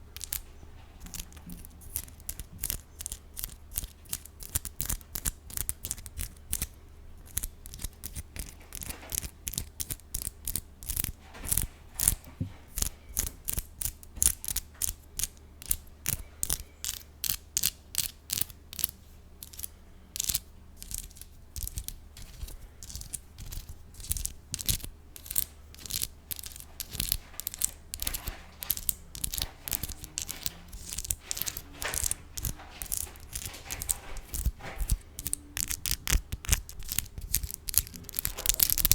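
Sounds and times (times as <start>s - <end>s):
nails tapping and scratching: 0.0s - 38.9s.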